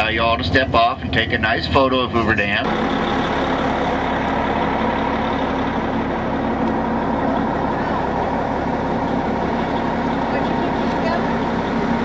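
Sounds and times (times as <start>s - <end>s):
bus engine humming inside cabin: 0.0s - 12.0s.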